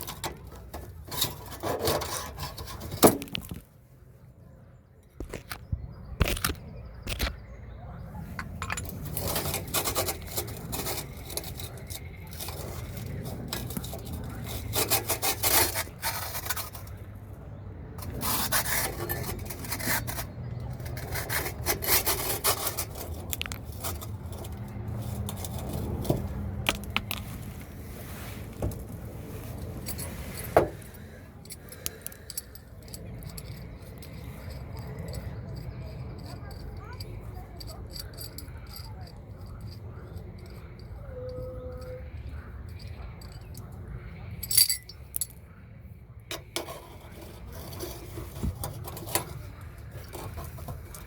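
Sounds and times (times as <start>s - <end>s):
scraping and rubbing: 0.0s - 3.7s, 5.2s - 7.4s, 8.2s - 17.2s, 18.0s - 43.7s, 46.3s - 51.0s.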